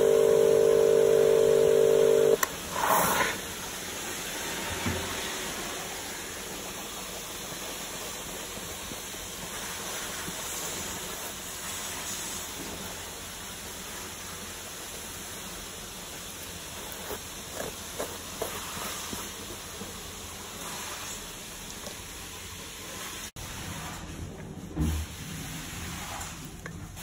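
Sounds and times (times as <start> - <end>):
steam cleaner hissing: 0.0 - 24.0.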